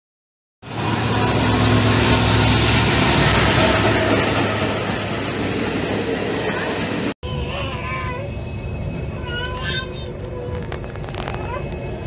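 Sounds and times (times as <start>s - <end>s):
passenger train passing at speed: 0.6s - 12.0s
thin high whine: 0.6s - 12.0s.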